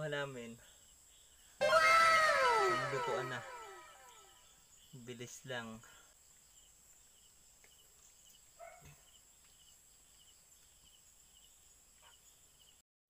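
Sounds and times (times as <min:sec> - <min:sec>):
faint crickets chirping: 0:00.0 - 0:01.6, 0:02.4 - 0:12.8.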